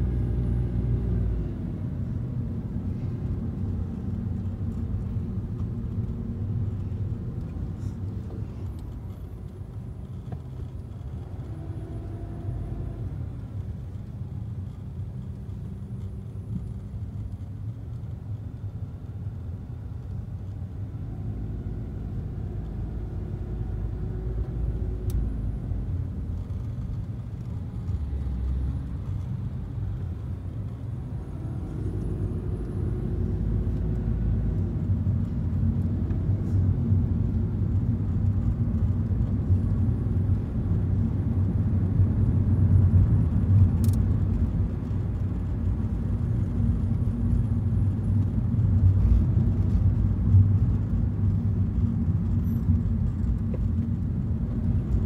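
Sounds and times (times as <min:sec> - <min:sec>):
car engine and tyres rumble: 0:00.0 - 0:55.0.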